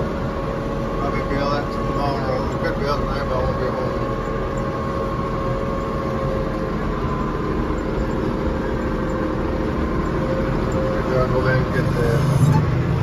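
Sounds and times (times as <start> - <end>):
faint steady whine: 0.0 - 13.0
tractor engine running: 0.0 - 13.0.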